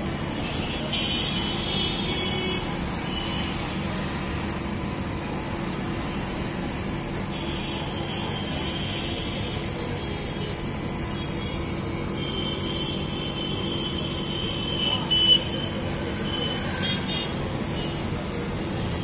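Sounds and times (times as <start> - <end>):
constant high hiss: 0.0 - 19.0
mechanical drone with low hum: 0.0 - 19.0.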